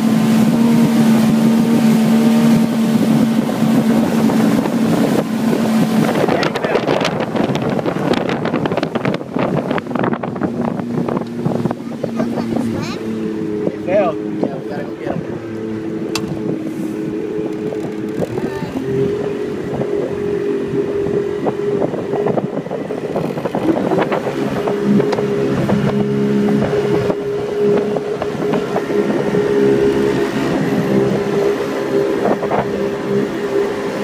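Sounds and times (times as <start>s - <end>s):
jet boat engine running: 0.0s - 34.0s.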